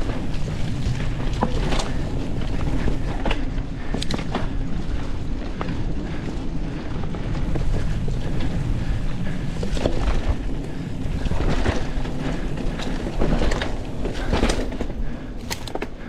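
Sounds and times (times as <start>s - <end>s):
bike clicks and rattles: 0.0s - 16.0s
bike rolling on dirt trail: 0.0s - 16.0s
wind buffeting microphone: 0.0s - 16.0s.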